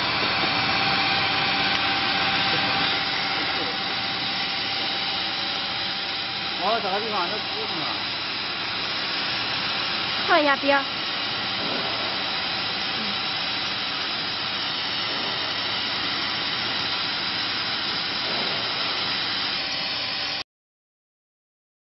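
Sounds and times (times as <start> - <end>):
blower hissing: 0.0 - 20.4.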